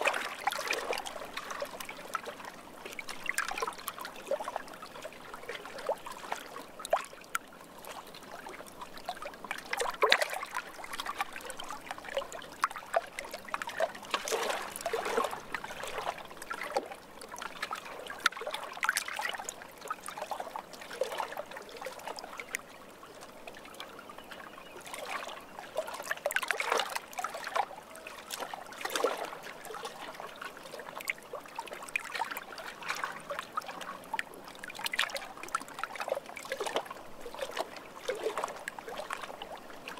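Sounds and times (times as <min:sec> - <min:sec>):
water trickling and lapping: 0:00.0 - 0:39.9.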